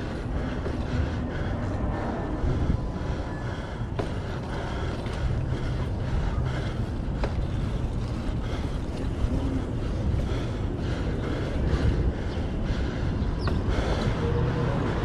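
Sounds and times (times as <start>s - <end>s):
road and traffic noise: 0.0s - 15.0s
wind rumble on microphone: 0.0s - 15.0s.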